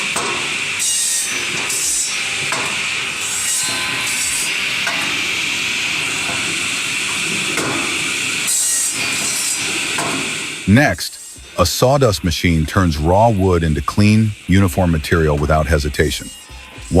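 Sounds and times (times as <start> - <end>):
machine cutting timber: 0.0 - 17.0.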